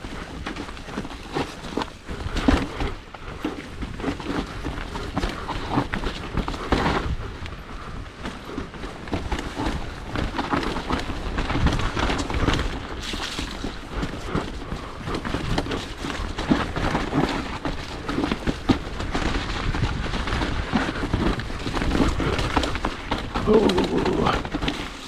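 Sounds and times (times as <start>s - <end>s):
bike knocking and rattling: 0.0s - 25.0s
mountain bike rumbling downhill: 0.0s - 25.0s.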